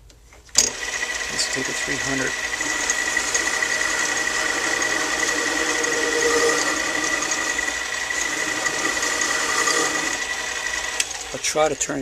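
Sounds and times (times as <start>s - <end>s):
metal lathe whining: 0.6s - 12.0s.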